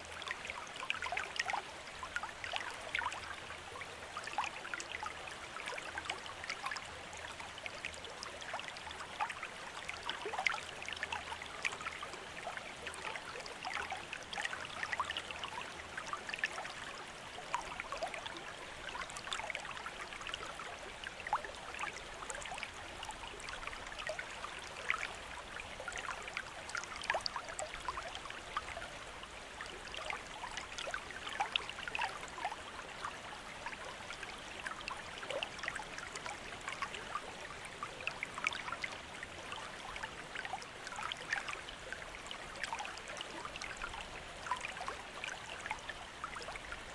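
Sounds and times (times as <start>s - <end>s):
fountain water trickling and splashing: 0.0s - 46.9s.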